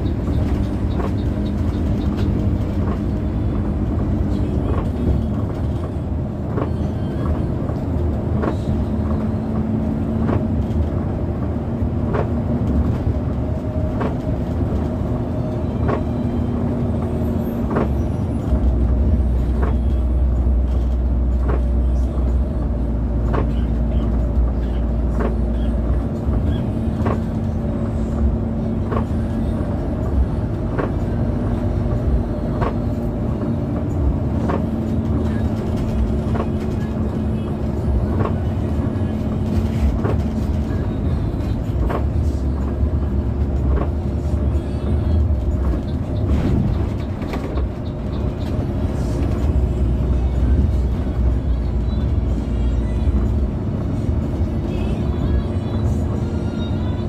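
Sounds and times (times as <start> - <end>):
bus engine and road hum: 0.0 - 57.0.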